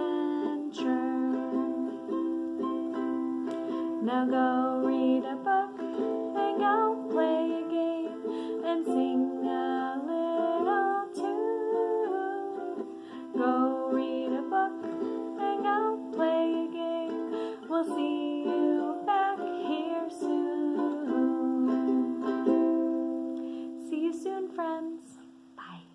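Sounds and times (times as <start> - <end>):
ukulele strumming: 0.0 - 25.4.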